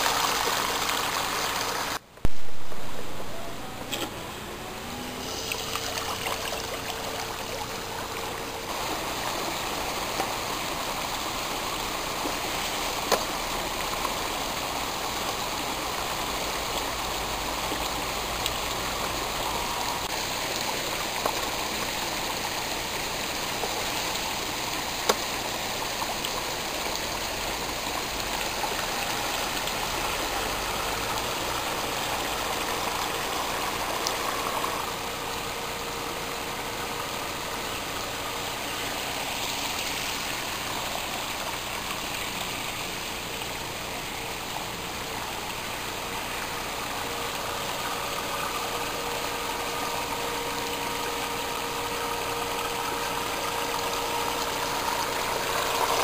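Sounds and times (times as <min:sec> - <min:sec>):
stream water flowing: 0:00.0 - 0:56.0
boat motor whine: 0:02.2 - 0:41.9, 0:43.2 - 0:56.0.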